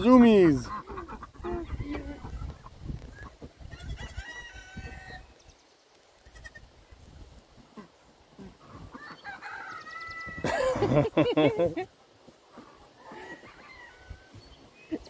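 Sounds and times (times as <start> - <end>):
baby goats and chickens calling: 0.0 - 15.0.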